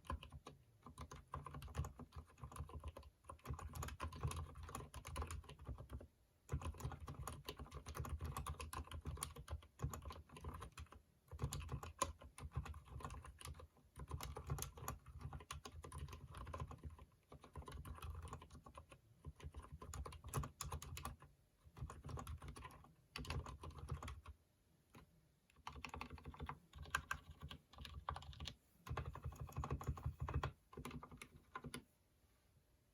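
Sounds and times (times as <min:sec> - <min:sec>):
mechanical keyboard typing: 0:00.0 - 0:31.9.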